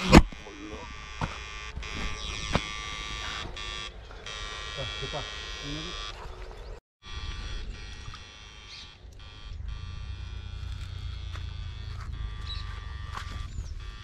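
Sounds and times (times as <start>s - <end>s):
electric buzz with high whine: 0.0s - 14.0s.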